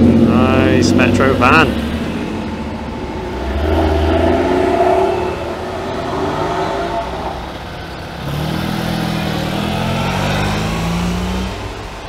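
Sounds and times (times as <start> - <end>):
car engine driving by: 0.0 - 12.0
small car engine pulling away: 0.0 - 12.0.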